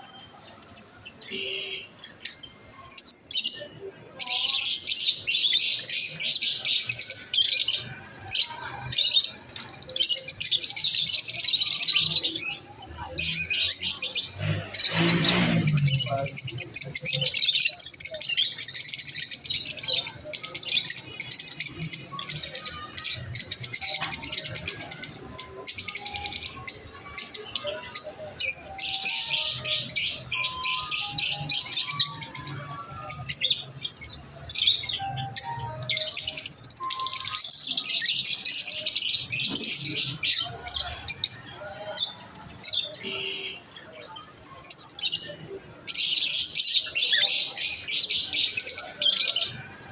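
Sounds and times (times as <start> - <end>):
lovebirds chirping: 0.0 - 49.9.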